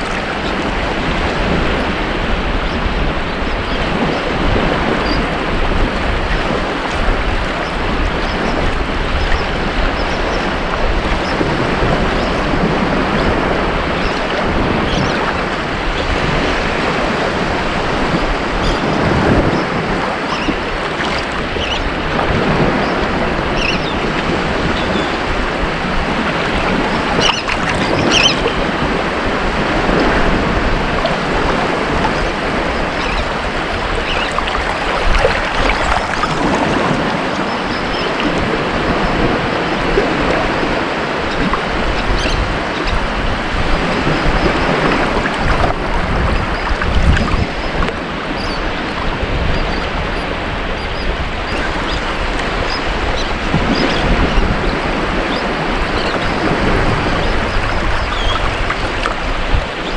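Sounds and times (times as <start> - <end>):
ocean waves washing on beach: 0.0 - 59.9
wind on microphone: 0.0 - 59.9.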